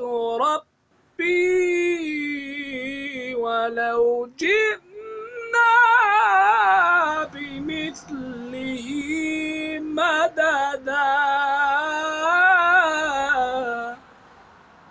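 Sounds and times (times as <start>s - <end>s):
person chanting quran recitation: 0.0s - 0.6s, 1.2s - 14.0s.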